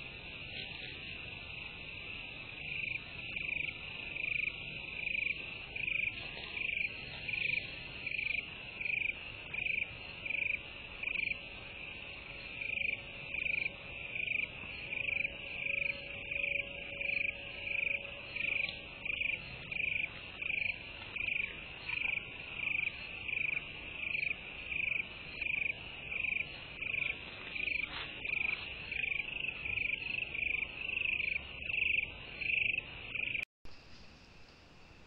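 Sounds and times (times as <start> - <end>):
insect chirping: 0.0 - 35.0.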